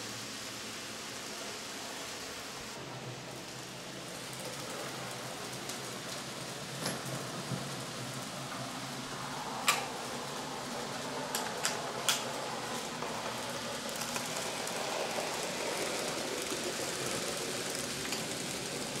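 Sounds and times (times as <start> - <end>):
model train whirring rattle: 0.0 - 19.0.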